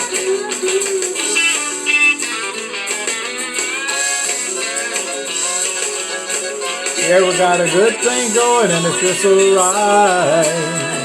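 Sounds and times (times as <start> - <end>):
country music guitar: 0.0 - 11.0.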